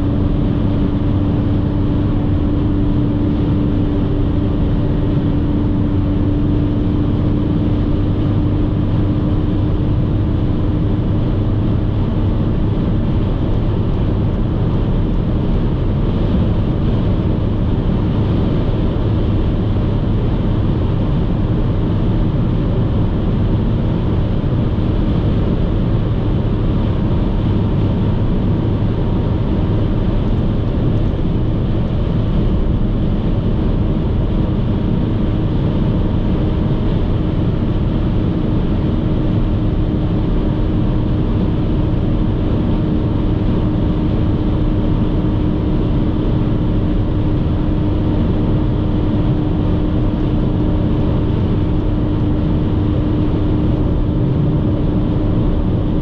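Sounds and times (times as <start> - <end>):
low engine drone: 0.0 - 56.0
road and tyre noise: 0.0 - 56.0.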